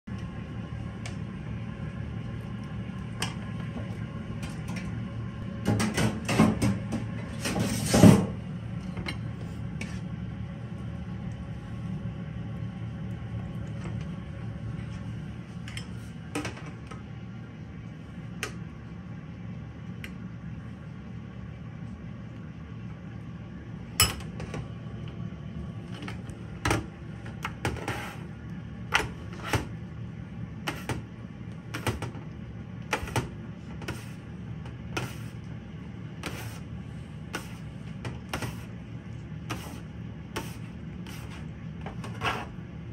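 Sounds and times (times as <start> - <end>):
low hum: 8.3 - 42.9.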